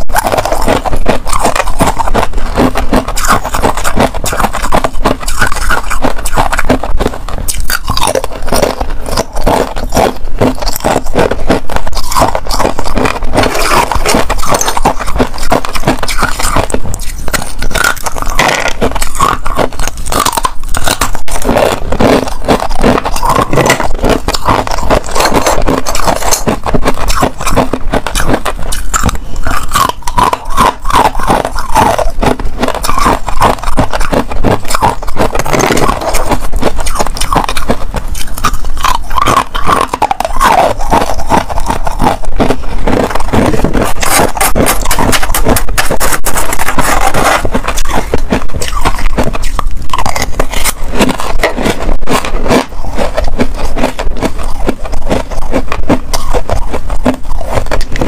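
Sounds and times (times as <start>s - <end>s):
ice crunching while chewed: 0.0s - 58.0s.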